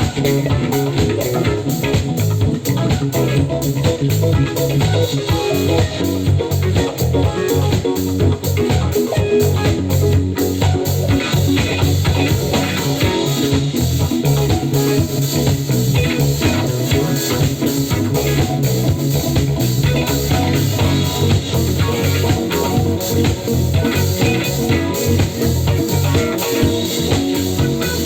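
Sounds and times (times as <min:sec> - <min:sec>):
bass line: 0:00.0 - 0:28.0
drum kit beat: 0:00.0 - 0:28.0
electric guitar lines: 0:00.0 - 0:28.0.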